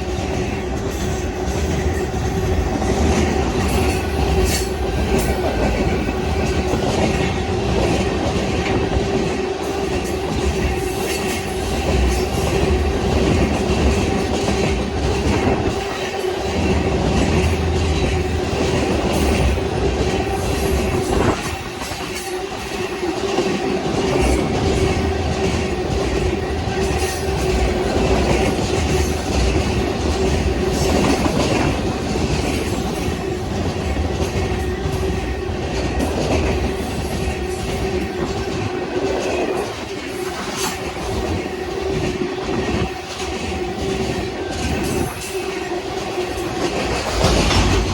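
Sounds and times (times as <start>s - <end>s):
freight train rumble: 0.0s - 47.9s
train wheels clacking over rail joints: 0.0s - 47.9s.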